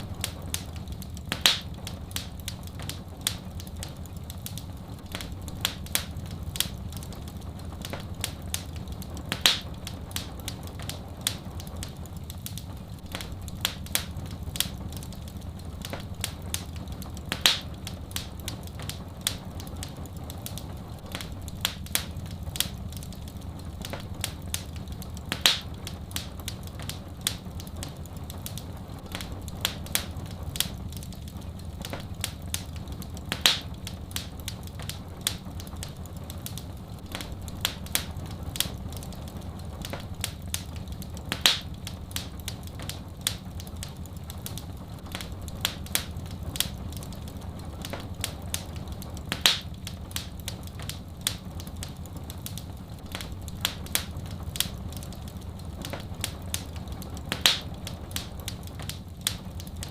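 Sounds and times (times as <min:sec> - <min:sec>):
fire pops: 0:00.0 - 0:59.9
steady low rumble: 0:00.0 - 0:59.9
wood fire crackling: 0:00.0 - 0:59.9.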